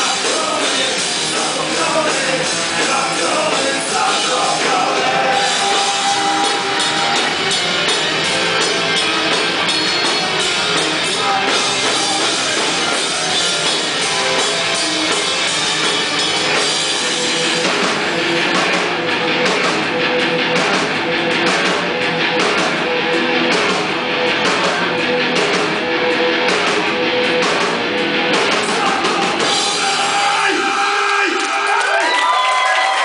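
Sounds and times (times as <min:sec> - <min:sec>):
distorted electric guitars: 0:00.0 - 0:33.0
drum kit: 0:00.0 - 0:33.0.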